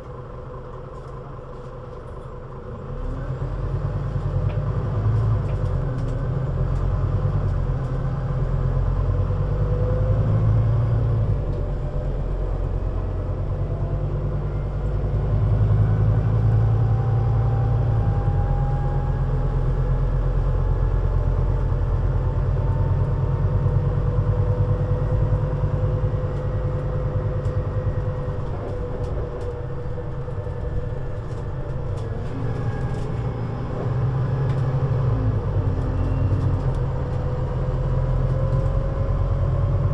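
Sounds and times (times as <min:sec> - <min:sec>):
bus engine rumble: 0:00.0 - 0:39.9.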